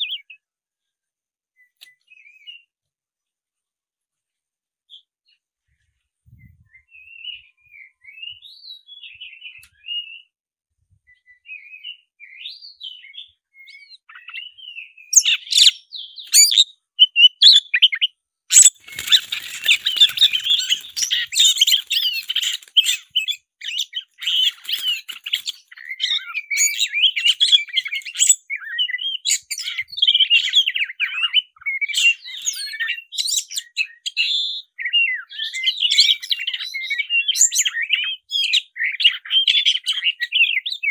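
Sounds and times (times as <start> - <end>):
bird singing whistles: 0.0 - 0.4, 1.6 - 2.7, 6.3 - 10.4, 11.1 - 40.9.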